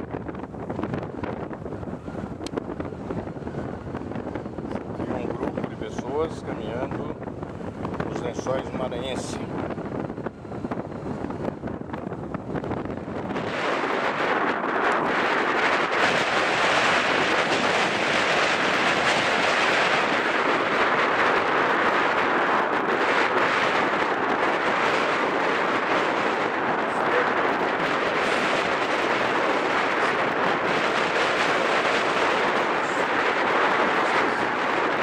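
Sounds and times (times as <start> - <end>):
wind on microphone: 0.0 - 35.0.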